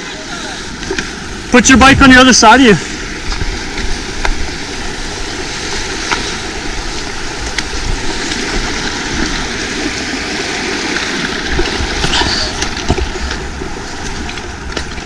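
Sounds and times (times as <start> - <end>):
river running over rocks: 0.0 - 15.0
wind on microphone: 0.0 - 15.0.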